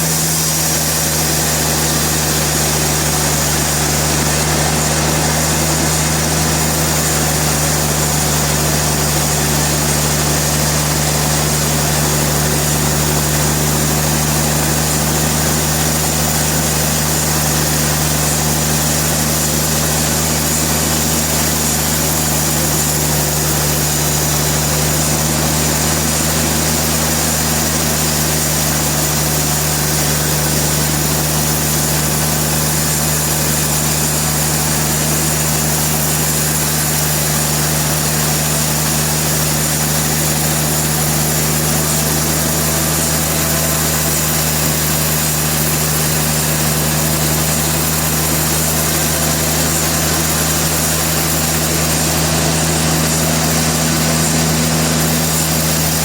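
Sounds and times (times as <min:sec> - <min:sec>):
sawmill machinery droning: 0:00.0 - 0:56.0.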